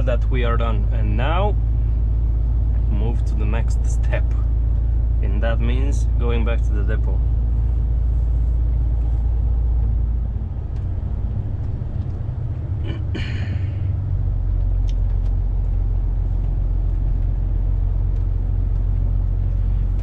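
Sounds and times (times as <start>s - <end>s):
truck diesel engine rumble: 0.0s - 20.0s.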